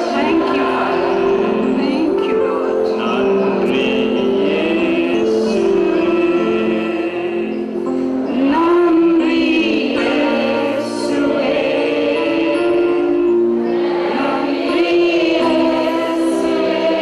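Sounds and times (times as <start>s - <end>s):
voices singing worship song: 0.0s - 17.0s.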